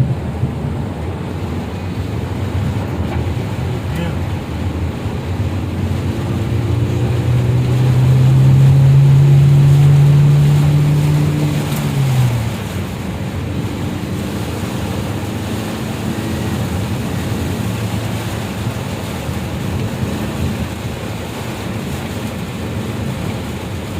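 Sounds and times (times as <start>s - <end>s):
engine hum: 0.0s - 23.9s
rushing water: 0.0s - 23.9s
wind: 0.0s - 23.9s.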